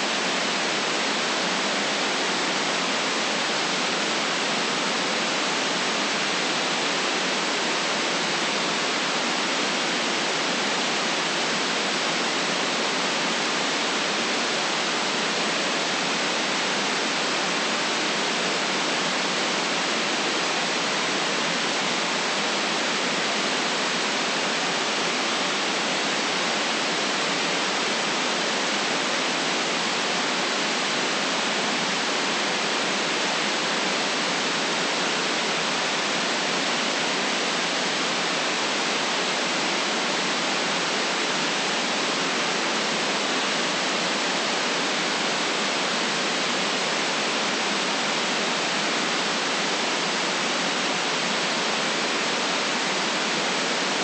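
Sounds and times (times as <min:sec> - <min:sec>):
electronic white noise hiss: 0:00.0 - 0:54.0.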